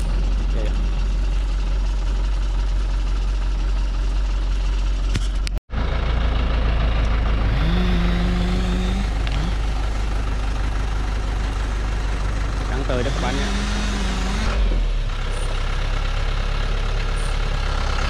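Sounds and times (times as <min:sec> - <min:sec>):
truck engine rumbling under load: 0:00.0 - 0:18.0.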